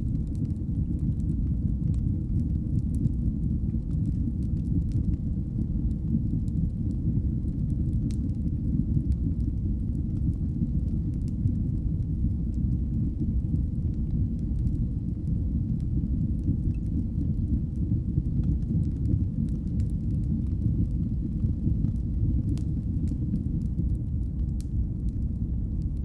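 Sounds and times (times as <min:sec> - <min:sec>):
faint fire crackles: 0:00.0 - 0:26.0
low rumble of flames: 0:00.0 - 0:26.0.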